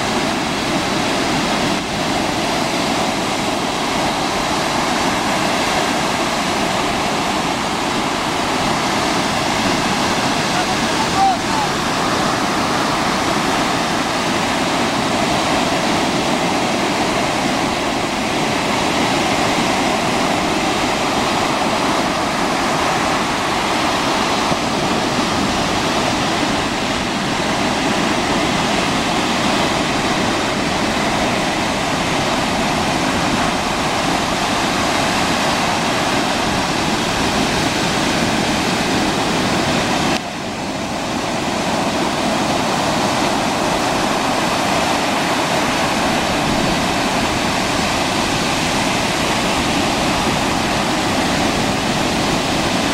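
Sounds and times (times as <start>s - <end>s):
surf washing up a beach: 0.0s - 52.9s.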